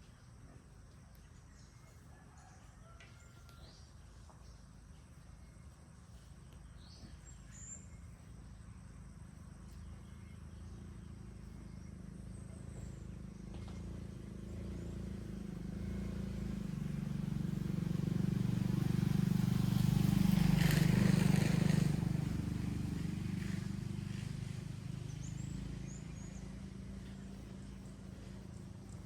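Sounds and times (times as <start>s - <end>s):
vehicle engine passing by: 5.4s - 29.0s.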